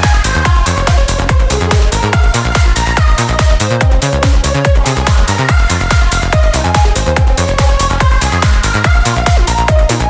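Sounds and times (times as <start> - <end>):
kick drum: 0.0 - 10.0
rolling bass line: 0.0 - 10.0.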